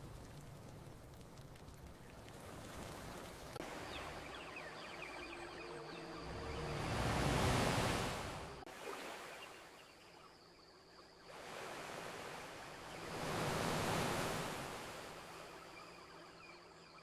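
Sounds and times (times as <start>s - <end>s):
ocean wave washing on beach: 0.0s - 9.6s, 11.3s - 15.7s.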